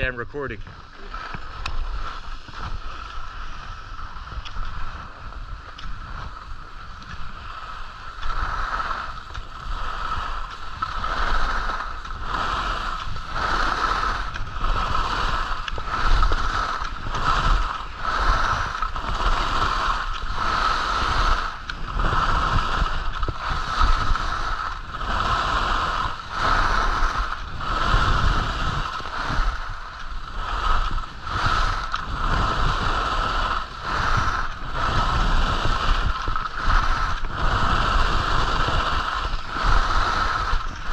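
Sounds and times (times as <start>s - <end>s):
skis scraping on snow: 0.0s - 40.9s
wind rumbling on microphone: 0.0s - 40.9s.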